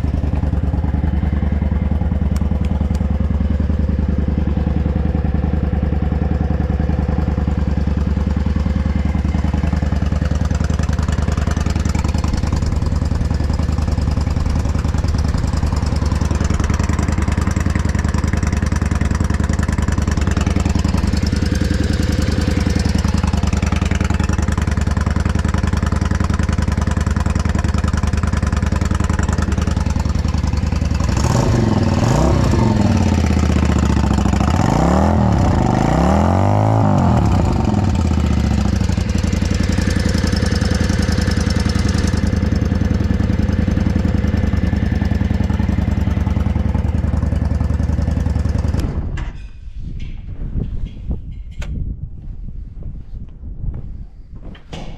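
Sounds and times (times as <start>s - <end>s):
motorcycle engine idling and revving: 0.0s - 49.2s.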